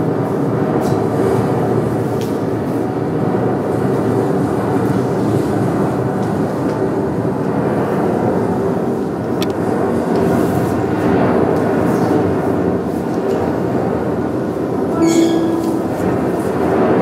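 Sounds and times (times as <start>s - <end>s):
strong wind rumble: 0.0s - 17.0s.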